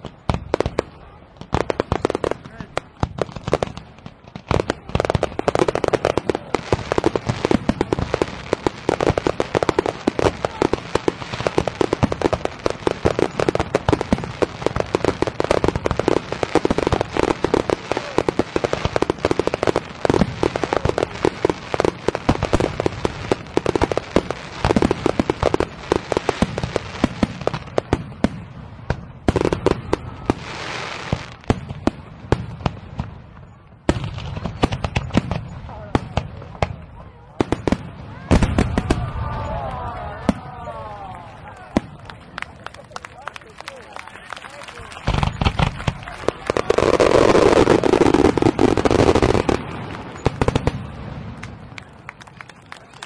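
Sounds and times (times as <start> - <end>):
fireworks cracking and popping: 0.0 - 53.0.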